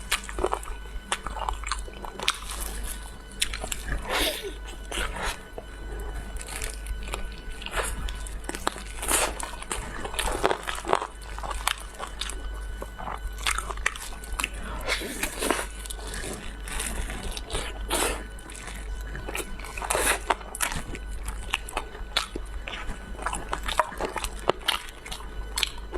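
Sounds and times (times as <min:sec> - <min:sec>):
person chewing and crunching food: 0:00.0 - 0:25.9
steady low hum: 0:00.0 - 0:25.9.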